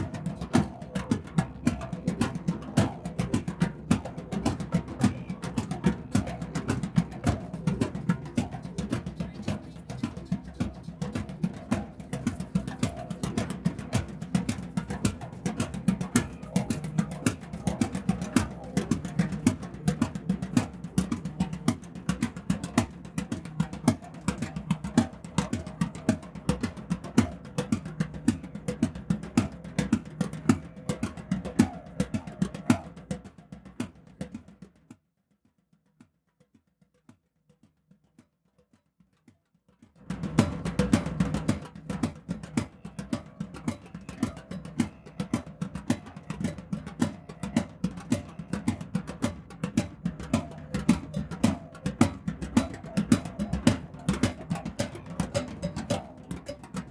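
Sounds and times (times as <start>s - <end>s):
drum circle playing: 0.0s - 34.9s, 40.0s - 56.9s.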